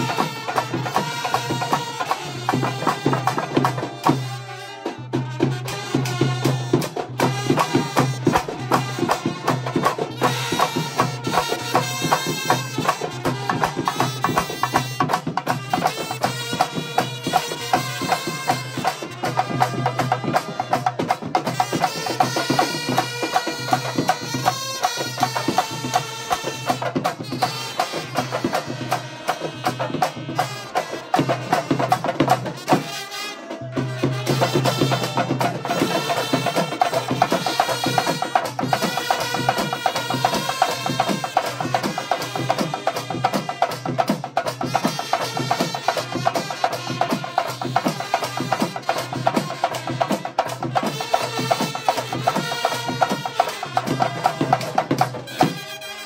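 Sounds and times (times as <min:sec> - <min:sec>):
hand cymbals: 0:00.0 - 0:33.2, 0:34.0 - 0:56.0
barrel drums: 0:00.0 - 0:55.8
brass horns playing tune: 0:00.0 - 0:56.0.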